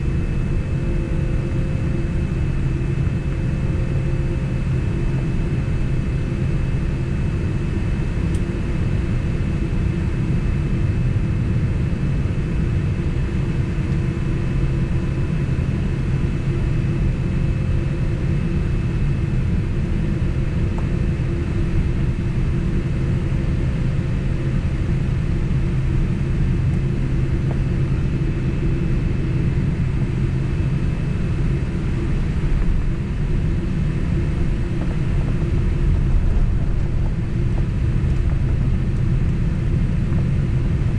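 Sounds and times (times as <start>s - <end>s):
constant hums: 0.0s - 40.9s
jet engines rumbling in cabin: 0.0s - 40.9s.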